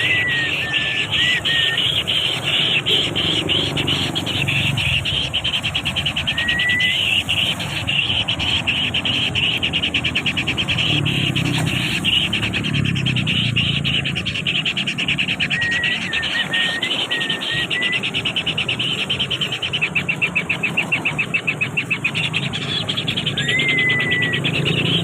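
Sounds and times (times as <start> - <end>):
insects pulsing chorus: 0.0 - 25.0.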